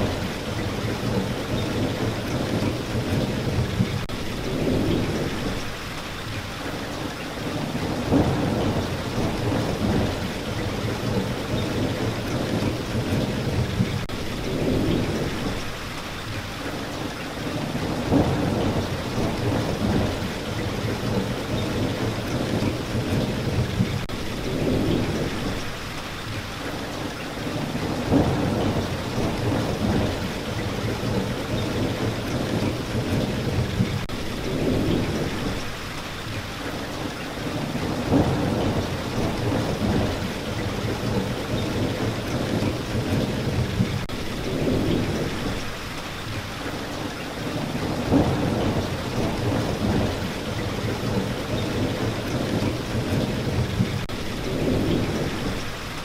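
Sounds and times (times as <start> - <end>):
rolling thunder: 0.0 - 5.8, 7.4 - 15.8, 17.5 - 25.7, 27.5 - 35.7, 37.4 - 45.7, 47.4 - 55.7
steady rain: 0.0 - 56.0.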